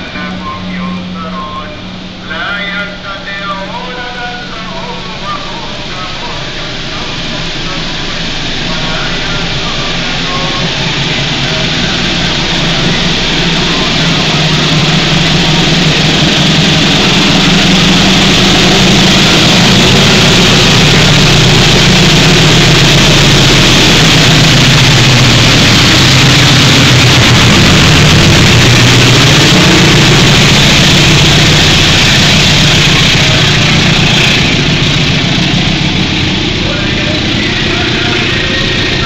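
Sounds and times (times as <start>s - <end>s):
diesel locomotive engine: 0.0s - 39.0s
passenger coaches rolling past: 0.0s - 39.0s.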